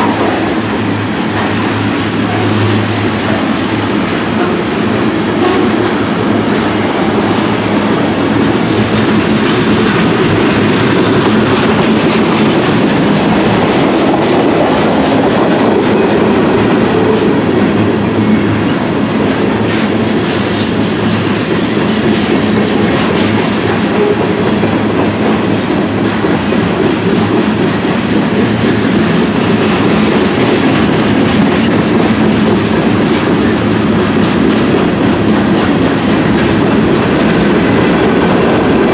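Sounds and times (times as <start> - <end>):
freight train rumbling: 0.0 - 38.9
train wheels clacking over joints: 0.0 - 38.9.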